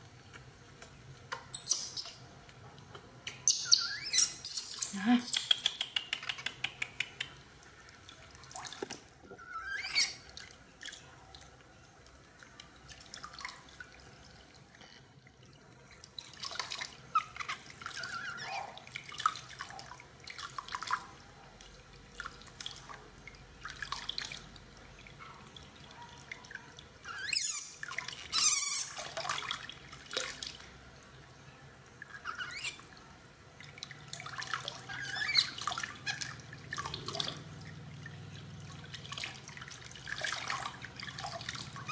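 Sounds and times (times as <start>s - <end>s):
water splashing in a plastic basin: 5.6s - 31.3s, 32.0s - 41.9s.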